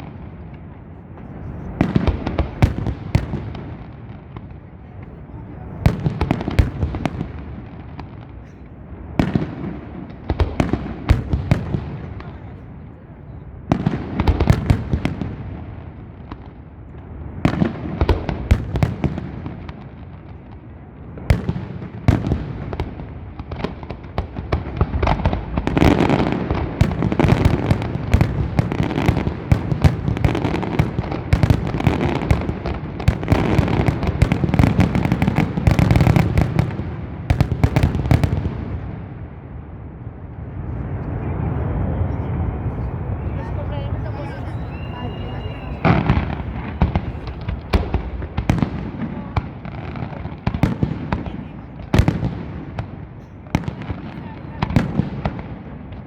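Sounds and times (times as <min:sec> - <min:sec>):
deep fireworks booms: 0:00.0 - 0:56.0
fireworks bangs and crackling: 0:00.0 - 0:56.0.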